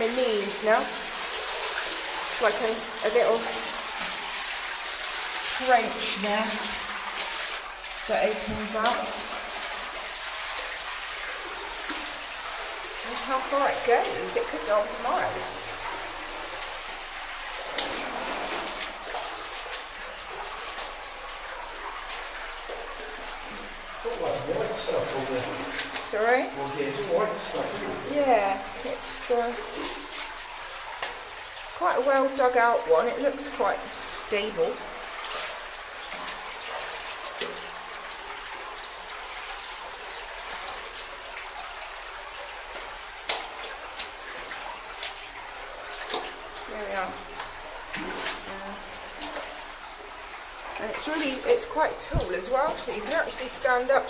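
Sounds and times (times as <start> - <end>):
people wading through water: 0.0 - 54.0.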